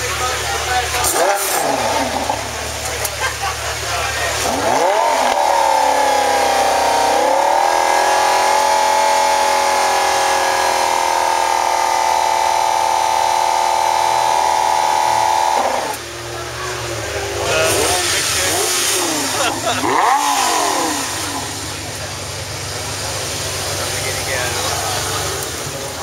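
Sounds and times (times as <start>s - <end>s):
sports car engine revving: 0.0s - 26.0s.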